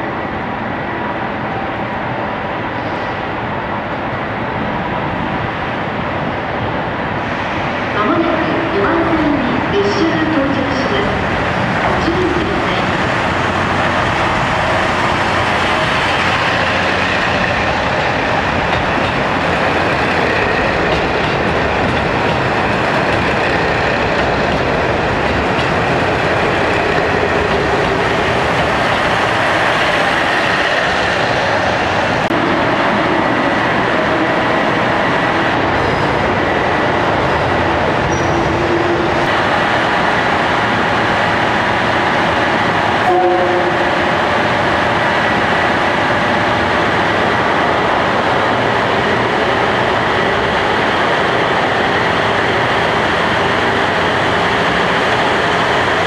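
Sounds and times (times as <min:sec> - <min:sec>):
diesel train engines: 0:00.0 - 0:56.0.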